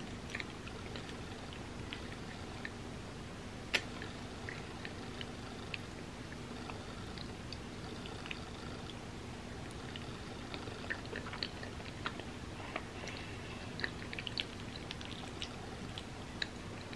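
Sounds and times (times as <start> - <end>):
wet chewing sounds: 0.0 - 2.8, 3.7 - 16.9
faint steady hum: 0.0 - 16.9.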